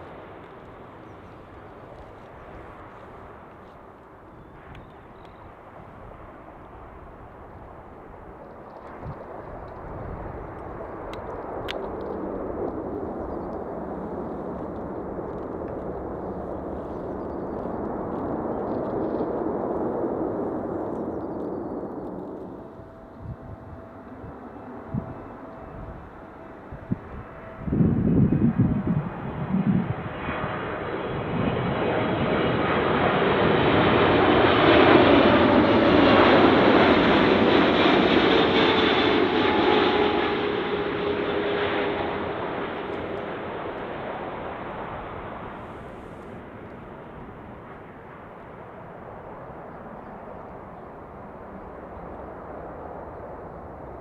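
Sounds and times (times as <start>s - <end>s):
jet airliner engine rumble: 0.0s - 54.0s.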